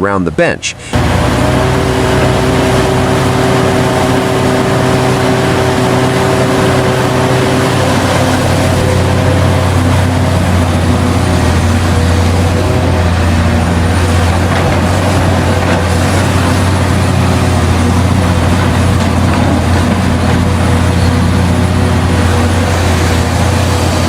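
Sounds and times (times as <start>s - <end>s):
diesel engine humming under load: 0.0s - 24.0s.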